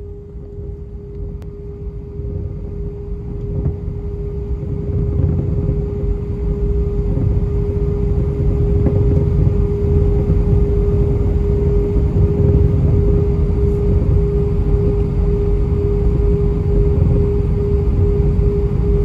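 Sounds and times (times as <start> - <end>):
jet engines humming in cabin: 0.0 - 19.0
low rumble: 0.0 - 19.0.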